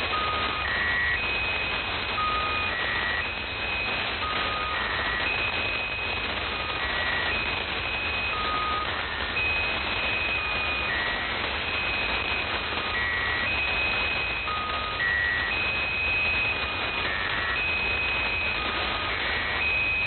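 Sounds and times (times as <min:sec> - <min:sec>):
electronic beeps over radio: 0:00.0 - 0:20.0
radio hiss and static: 0:00.0 - 0:20.0.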